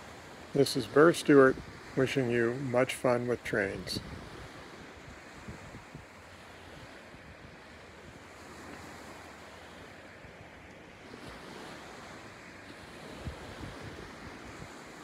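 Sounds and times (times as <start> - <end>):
small waves lapping on beach: 0.0 - 15.0
wind rumbling on microphone: 0.0 - 15.0.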